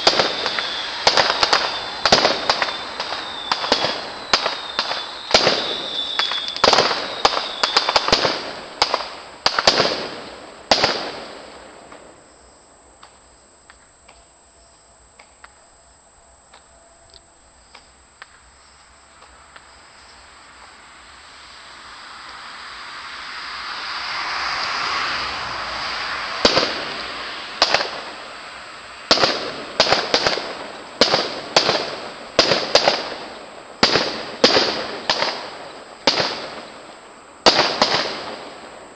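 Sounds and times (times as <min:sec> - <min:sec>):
fireworks bangs: 0:00.0 - 0:14.4, 0:17.6 - 0:38.9
fireworks hiss: 0:00.0 - 0:15.6, 0:17.3 - 0:38.9
fireworks crackles: 0:00.0 - 0:38.9.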